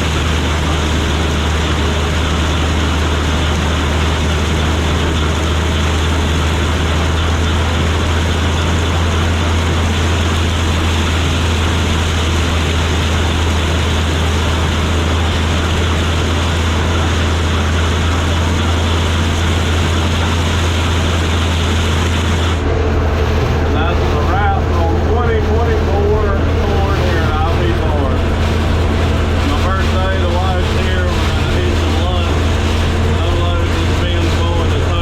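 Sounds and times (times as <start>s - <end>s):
combine engine drone: 0.0s - 35.0s
threshing machinery rushing: 0.0s - 35.0s.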